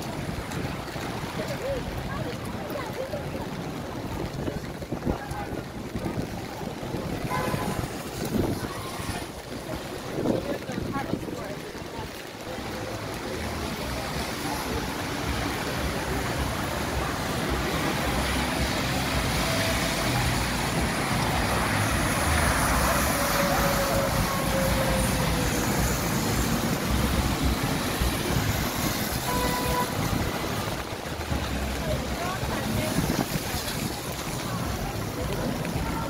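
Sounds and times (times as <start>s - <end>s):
vehicles passing on wet road: 0.0s - 36.0s
wind rumble on microphone: 0.0s - 36.0s.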